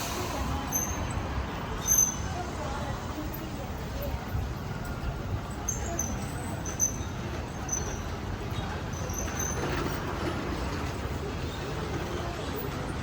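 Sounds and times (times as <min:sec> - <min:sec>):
murmur of voices: 0:00.0 - 0:13.0
road traffic rumble: 0:00.0 - 0:13.0.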